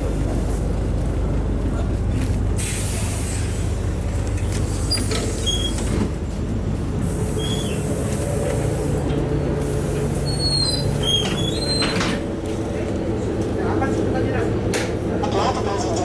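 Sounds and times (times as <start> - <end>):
bus engine idling: 0.0 - 16.0.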